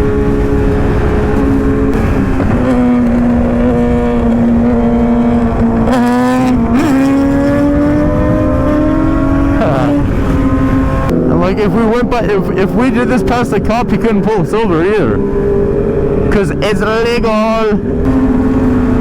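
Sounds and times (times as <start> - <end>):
motorcycle engine at high revs: 0.0 - 19.0
wind noise: 0.0 - 19.0.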